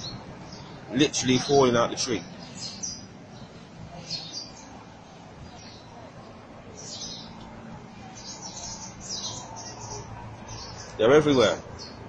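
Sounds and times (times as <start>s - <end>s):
flock of small birds chirping: 0.0s - 12.0s.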